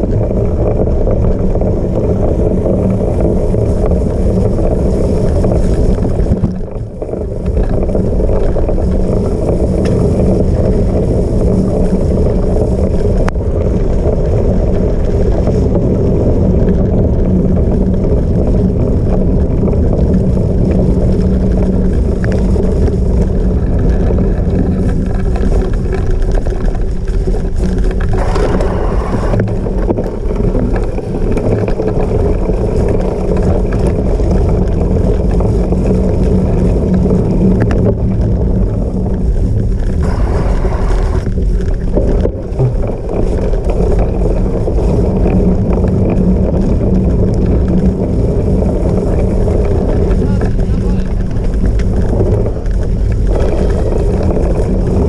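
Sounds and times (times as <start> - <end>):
bike tyres rolling on rough ground: 0.0 - 55.0
wind buffeting microphone: 0.0 - 55.0.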